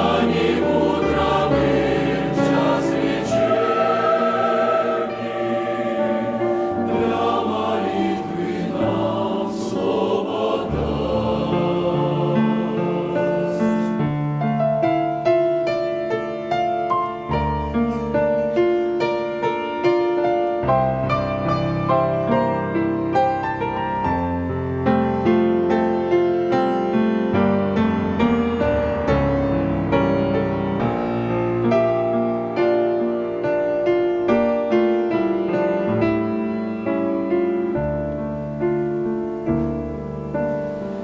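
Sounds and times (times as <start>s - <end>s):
slow gentle piano: 0.0s - 41.0s.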